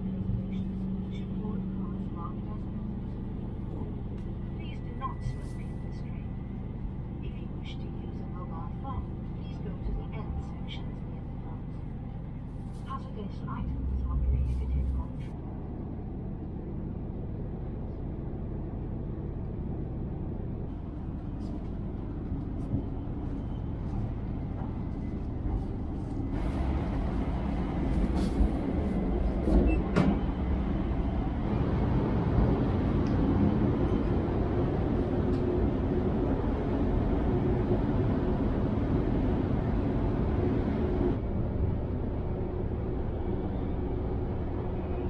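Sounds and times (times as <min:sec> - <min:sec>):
train interior rumble: 0:00.0 - 0:45.0.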